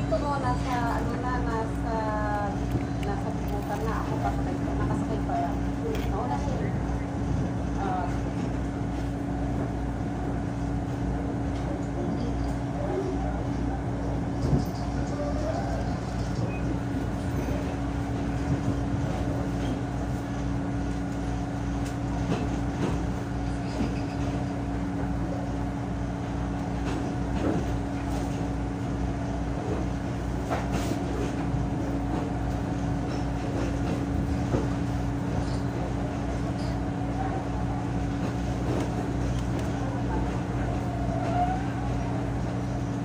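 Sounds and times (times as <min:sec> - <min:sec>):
diesel train engine drone: 0:00.0 - 0:43.0.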